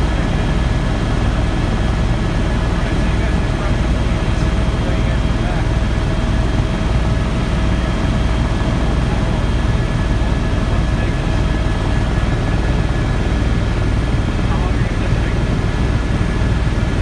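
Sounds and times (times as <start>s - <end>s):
helicopter engine whine: 0.0s - 17.0s
helicopter rotor beating: 0.0s - 17.0s.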